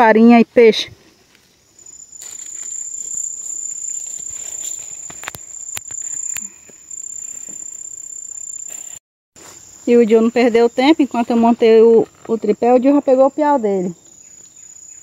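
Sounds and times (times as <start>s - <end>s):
high-pitched insect trill: 0.1s - 15.0s.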